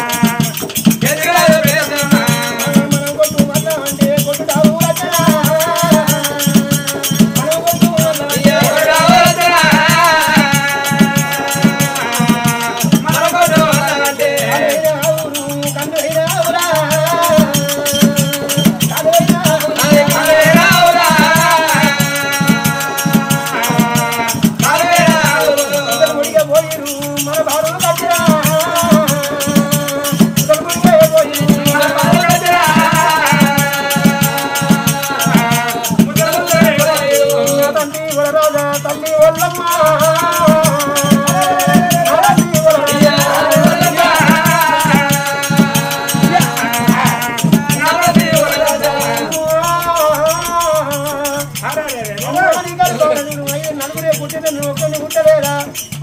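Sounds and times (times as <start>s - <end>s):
percussion beat with rattling: 0.0s - 56.0s.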